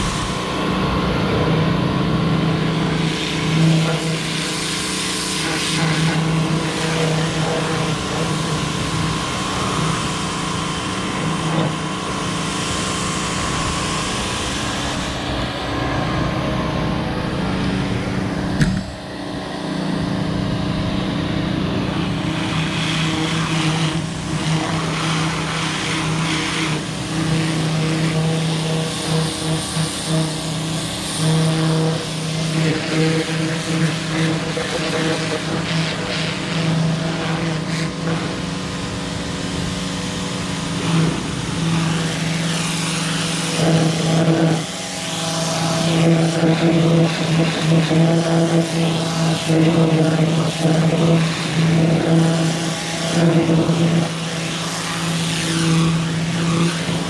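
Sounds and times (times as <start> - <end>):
pressure washer motor humming: 0.0 - 57.0.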